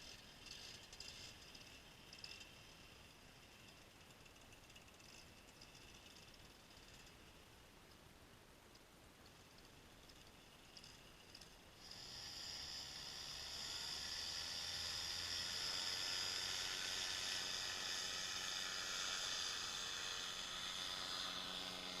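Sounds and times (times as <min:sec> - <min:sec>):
paramotor engine and propeller: 0:00.0 - 0:07.5, 0:09.2 - 0:22.0.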